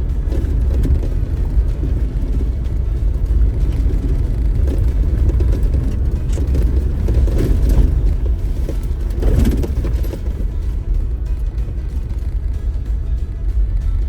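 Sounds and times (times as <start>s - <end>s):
rattles and crunches from bumps: 0.0s - 14.0s
vehicle engine and tyre rumble: 0.0s - 14.0s.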